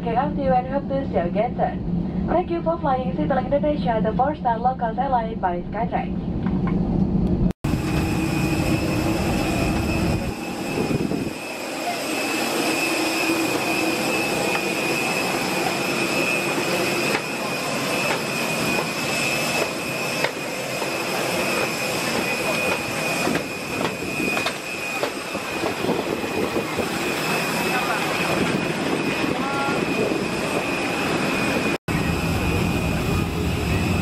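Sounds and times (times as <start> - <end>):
jet turbine whine: 6.1 - 34.0.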